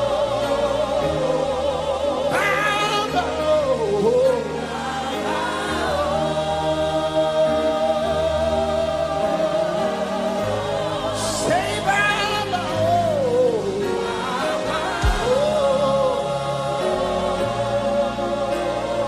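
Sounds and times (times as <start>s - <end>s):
gospel choir singing: 0.0s - 19.0s
sustained instrumental backing: 0.0s - 19.0s.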